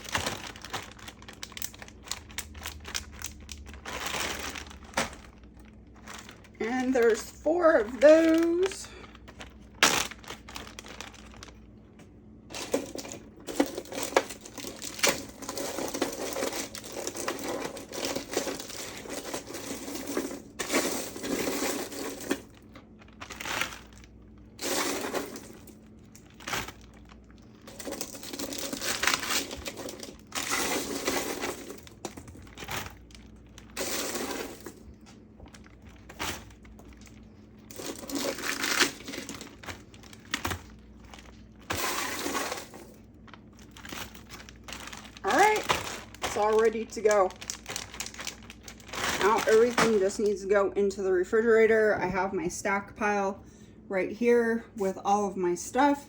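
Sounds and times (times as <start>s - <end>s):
plastic bags crinkling: 0.0s - 11.8s, 12.5s - 50.5s.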